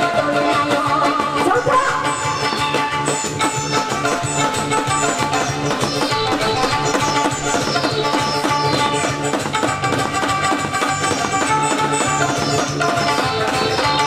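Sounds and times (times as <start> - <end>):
recorded backing music: 0.0 - 14.0.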